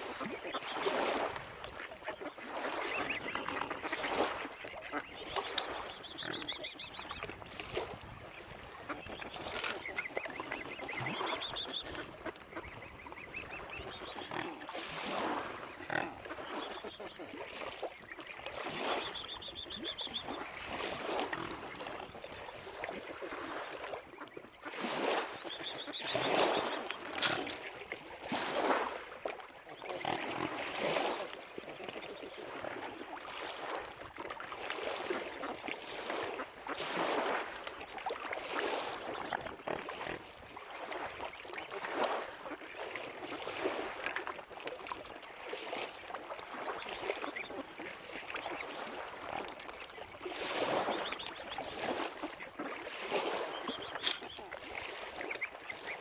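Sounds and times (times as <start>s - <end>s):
water splashing and lapping: 0.0s - 56.0s.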